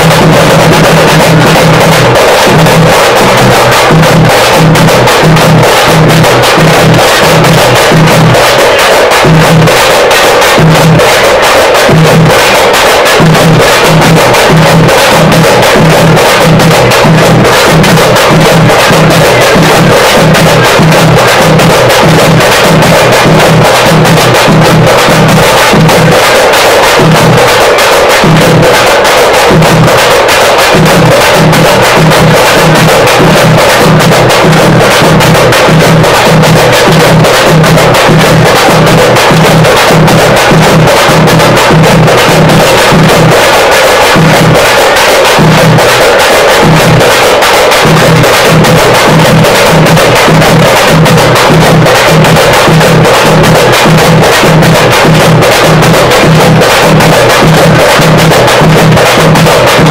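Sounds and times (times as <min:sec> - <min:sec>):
frame drums beaten with sticks: 0:00.0 - 0:59.9.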